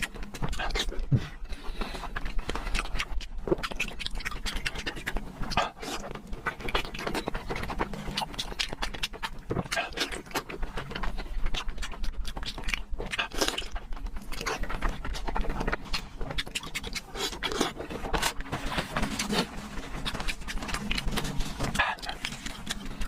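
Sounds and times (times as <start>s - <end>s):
wet chewing and mouth smacks: 0.0s - 23.0s.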